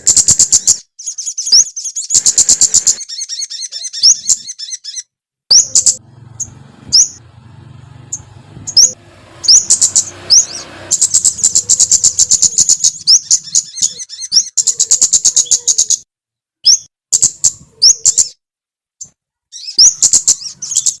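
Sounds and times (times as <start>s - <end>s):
songbird chirping: 0.0s - 18.4s, 19.0s - 21.0s.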